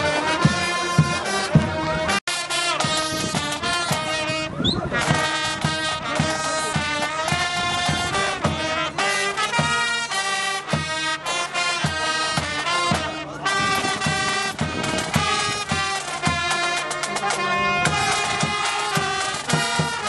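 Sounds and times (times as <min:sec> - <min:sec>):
brass horns playing tune: 0:00.0 - 0:20.0
steady drum beat: 0:00.0 - 0:20.0.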